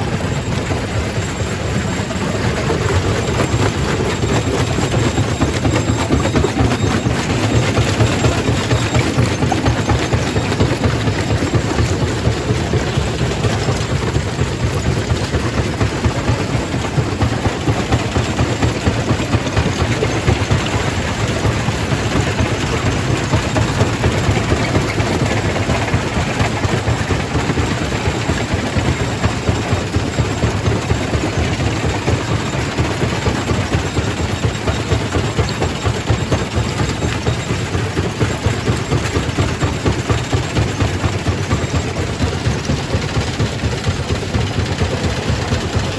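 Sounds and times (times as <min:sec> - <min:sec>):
rock crusher rumbling and rattling: 0:00.0 - 0:45.9.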